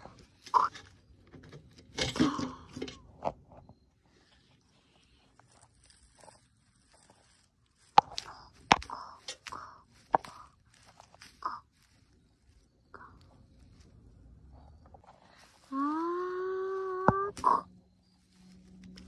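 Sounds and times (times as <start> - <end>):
dry grass rustling and crunching: 0.0 - 19.0.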